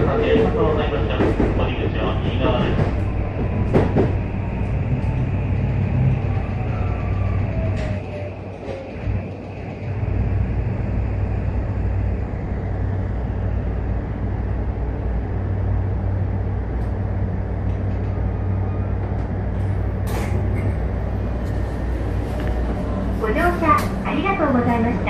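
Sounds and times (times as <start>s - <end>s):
electric train running hum: 0.0s - 25.0s.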